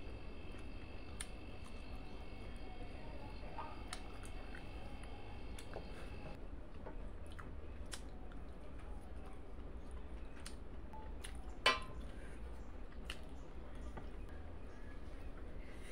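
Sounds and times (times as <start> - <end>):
low steady hum: 0.0 - 15.9
soft chewing: 0.0 - 15.9.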